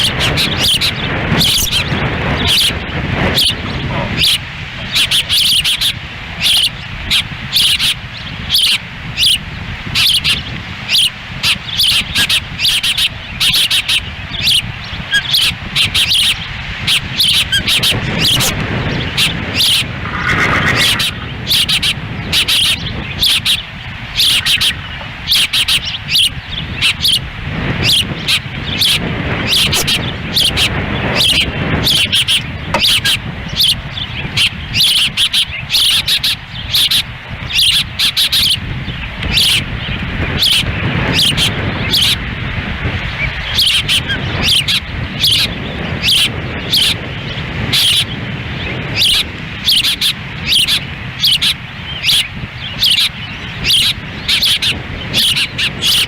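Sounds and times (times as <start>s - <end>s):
ospreys chirping: 0.0s - 56.0s
wind buffeting microphone: 0.0s - 56.0s.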